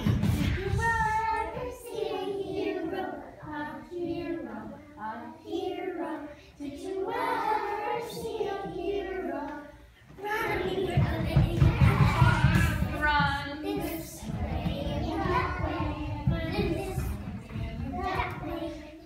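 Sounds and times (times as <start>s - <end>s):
young children singing: 0.0s - 19.0s.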